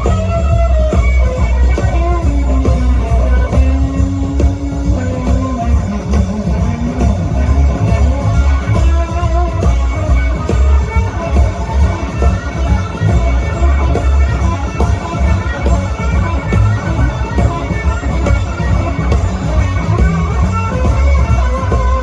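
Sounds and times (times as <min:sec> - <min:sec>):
bass: 0:00.0 - 0:22.0
drums: 0:00.0 - 0:22.0
electric guitar lead: 0:00.0 - 0:22.0.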